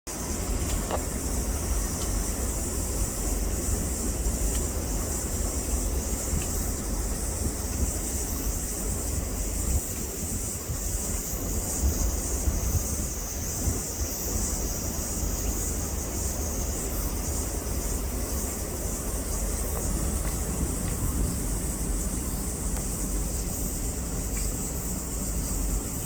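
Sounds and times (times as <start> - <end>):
high hiss: 0.1 - 26.0
wind buffeting microphone: 0.2 - 26.0.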